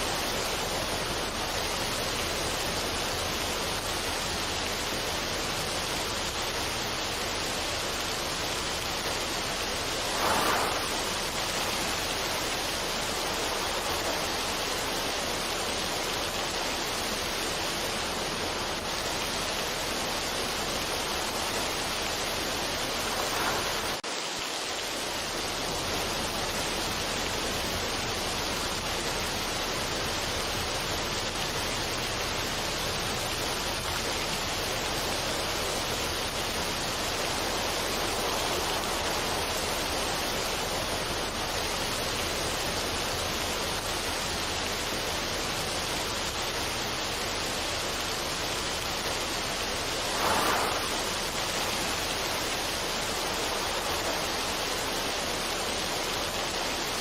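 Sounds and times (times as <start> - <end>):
steady rushing noise: 0.0 - 30.8, 31.6 - 44.7, 45.4 - 57.0.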